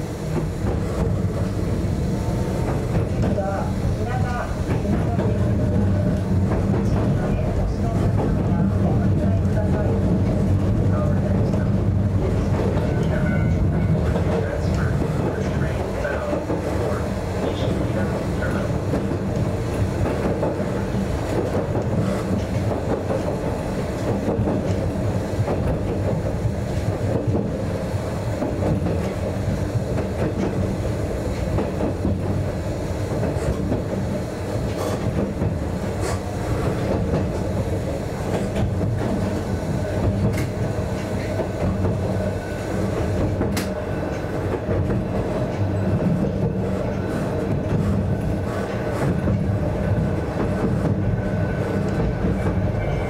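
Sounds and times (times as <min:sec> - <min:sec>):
train wheels and motors rumbling: 0:00.0 - 0:53.0.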